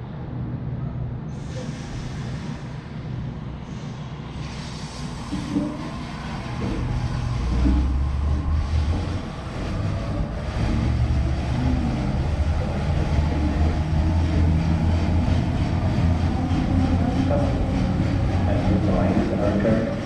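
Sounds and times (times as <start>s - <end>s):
electric train hum and rumble: 0.0s - 20.0s.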